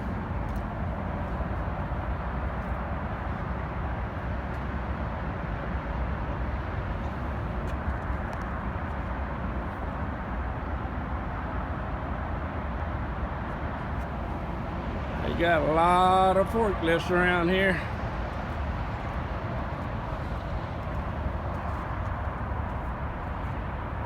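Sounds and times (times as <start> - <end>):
vehicle rumble and hiss: 0.0 - 24.0.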